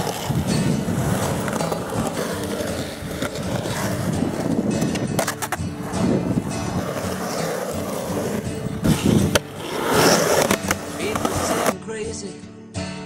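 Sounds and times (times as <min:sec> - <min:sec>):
skateboard wheels rolling on concrete: 0:00.0 - 0:11.8.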